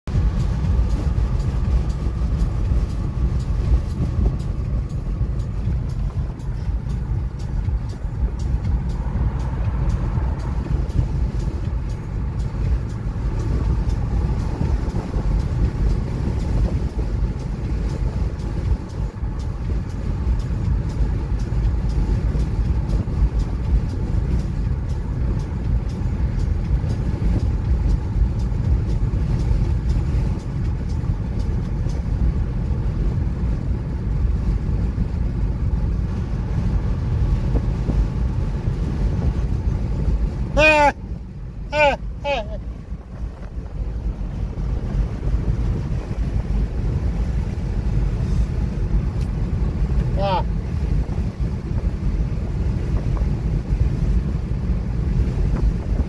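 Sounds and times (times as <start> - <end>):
car engine: 0.0 - 56.0
tyres rumbling on highway: 0.0 - 56.0
wind noise: 0.1 - 56.0.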